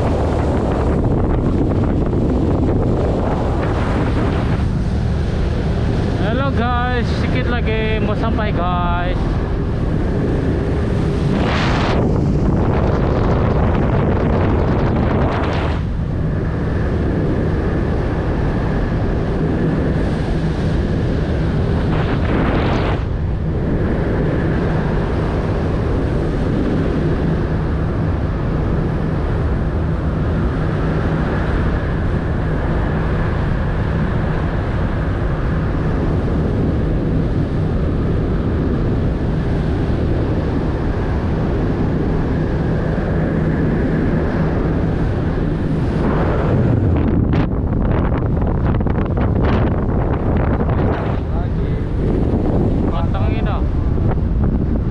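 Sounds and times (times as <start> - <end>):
boat engines droning: 0.0 - 54.9
wind buffeting microphone: 0.0 - 54.9.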